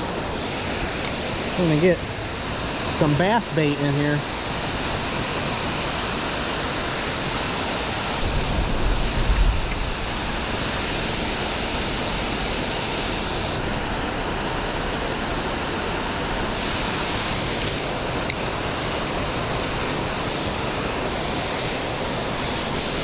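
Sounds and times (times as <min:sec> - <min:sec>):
water pouring over waterfall: 0:00.2 - 0:23.0.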